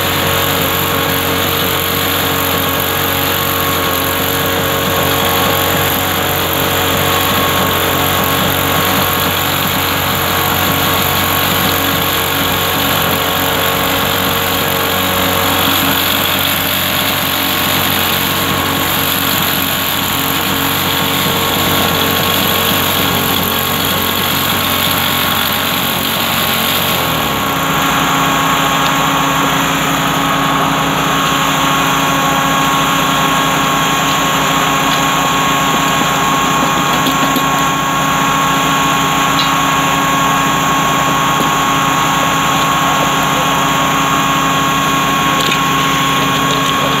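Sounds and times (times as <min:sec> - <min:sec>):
small engine running under load: 0:00.0 - 0:47.0.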